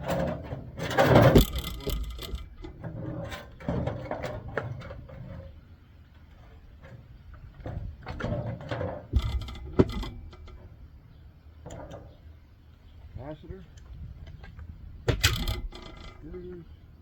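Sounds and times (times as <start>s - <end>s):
scraping and rattling of parts: 0.0s - 12.4s, 13.6s - 17.0s.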